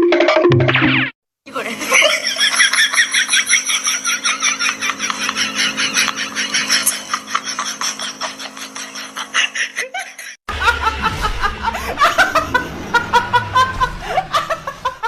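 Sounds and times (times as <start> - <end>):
people laughing: 1.5 - 15.0.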